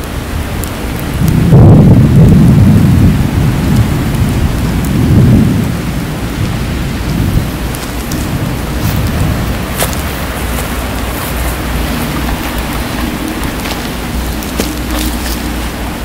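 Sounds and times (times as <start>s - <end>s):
rain hiss: 0.0s - 16.0s
rolling thunder: 1.0s - 16.0s.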